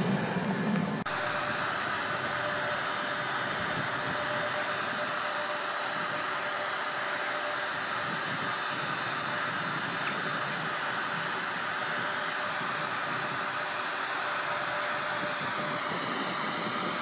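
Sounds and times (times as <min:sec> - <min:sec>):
electric train hiss and hum: 0:00.0 - 0:17.0.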